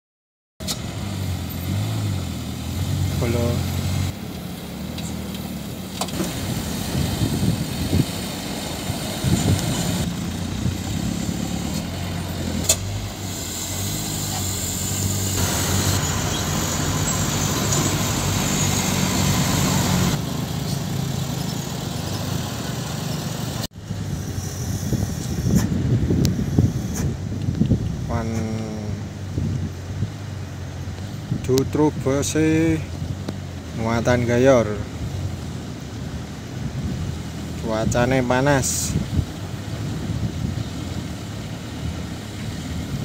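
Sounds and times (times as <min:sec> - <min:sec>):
diesel truck engines running: 0:00.6 - 0:43.0.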